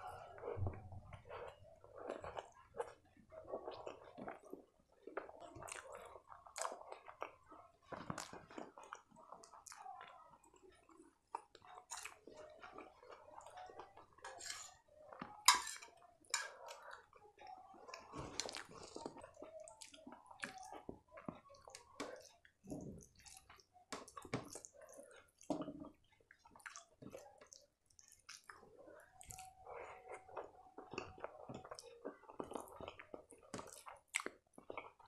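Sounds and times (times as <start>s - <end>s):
chewing rice mouth sounds: 1.1s - 35.0s.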